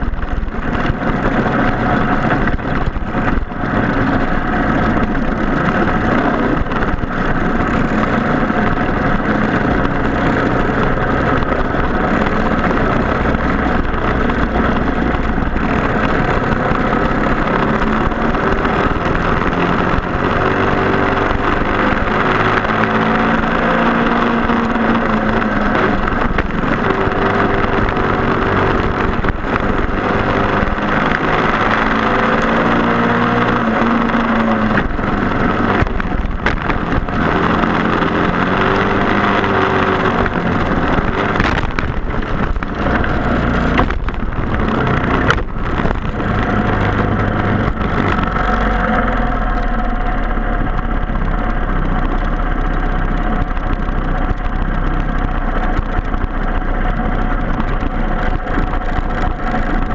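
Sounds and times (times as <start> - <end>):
racing kart engines: 0.0 - 59.9.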